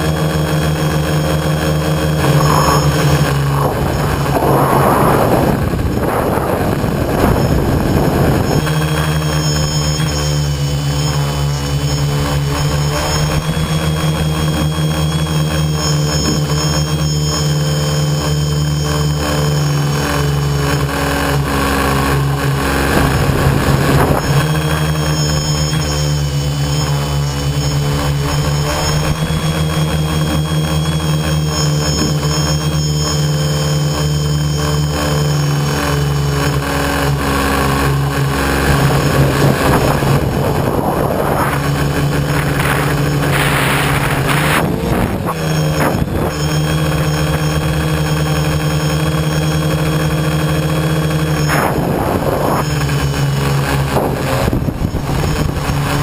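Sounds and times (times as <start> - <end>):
wind noise: 0.0 - 14.8, 18.9 - 32.3, 35.1 - 48.4, 49.0 - 56.0
drone motors and propellers humming: 0.0 - 56.0.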